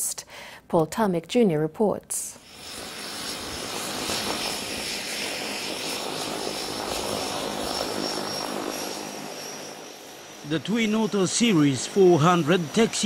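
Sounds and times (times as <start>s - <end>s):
aircraft turbine engines running: 2.4s - 13.0s
high-pitched turbine whine: 2.4s - 13.0s.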